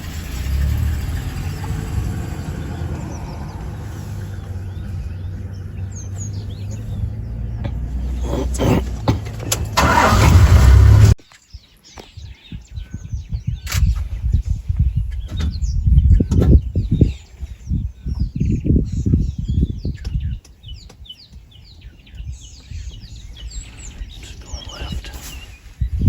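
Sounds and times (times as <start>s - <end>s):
wind buffeting microphone: 0.0s - 10.9s, 11.6s - 26.0s
birds chirping: 0.0s - 26.0s.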